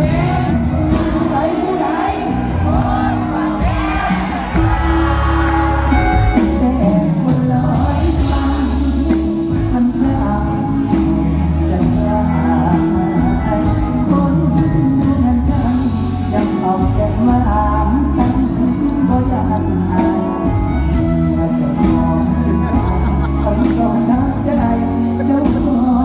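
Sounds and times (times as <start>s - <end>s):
band drumbeat and bass: 0.0s - 26.0s
person singing: 0.0s - 26.0s.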